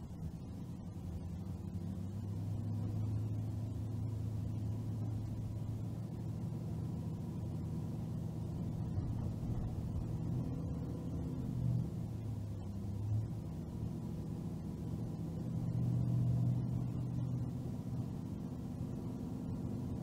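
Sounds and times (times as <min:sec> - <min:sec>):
car engine and tyre rumble: 0:00.0 - 0:20.0
constant low hum: 0:00.0 - 0:20.0.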